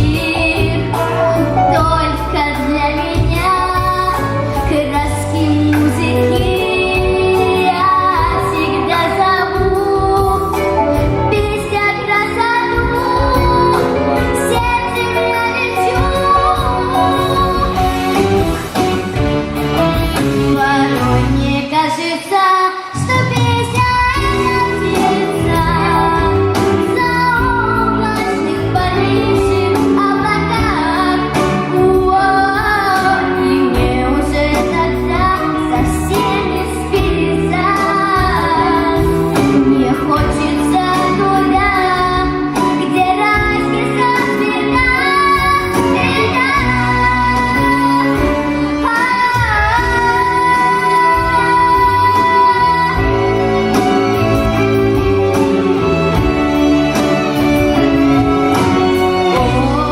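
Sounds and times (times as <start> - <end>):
girl singing with vibrato: 0.0 - 18.4, 20.5 - 54.6, 58.6 - 59.9
instrumental backing track: 0.0 - 59.9.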